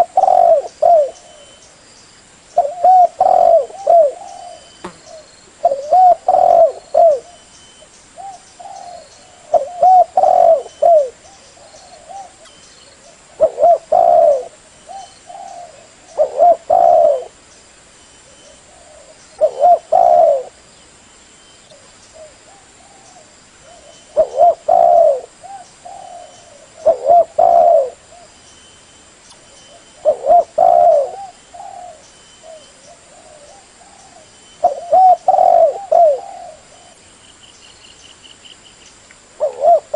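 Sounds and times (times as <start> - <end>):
dove cooing: 0.0 - 1.6, 2.6 - 7.5, 8.2 - 17.4, 18.4 - 20.6, 21.7 - 28.4, 29.7 - 37.0, 39.4 - 39.9.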